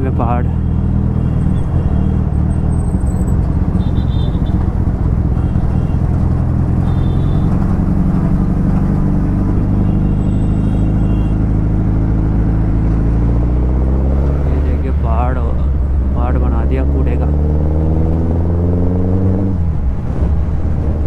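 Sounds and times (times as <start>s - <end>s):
motorcycle engine droning: 0.6s - 19.4s.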